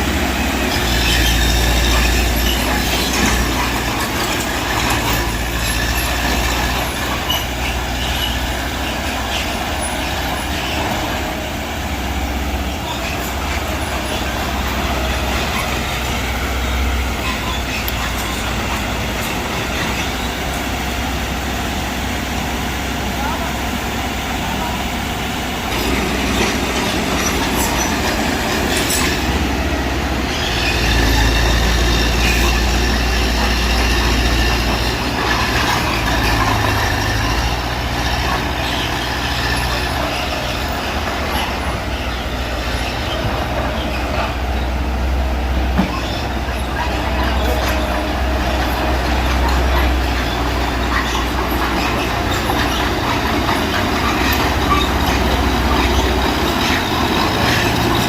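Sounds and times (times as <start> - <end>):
bulldozer diesel engine: 0.0 - 58.0
steel tracks squealing and clanking: 0.0 - 58.0.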